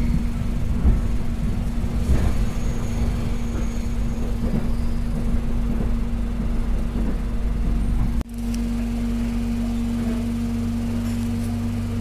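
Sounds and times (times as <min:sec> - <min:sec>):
electric train rumbling: 0:00.0 - 0:12.0
steady hum: 0:00.0 - 0:12.0.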